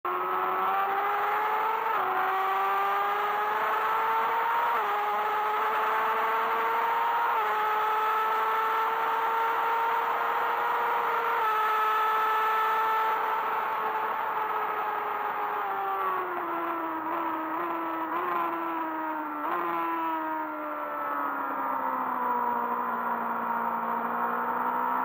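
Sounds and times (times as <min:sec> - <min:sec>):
motorcycle engine accelerating: 0:00.1 - 0:25.0.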